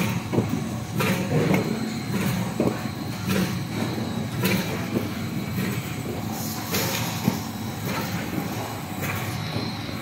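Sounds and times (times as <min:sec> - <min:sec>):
factory machinery running: 0:00.0 - 0:10.0.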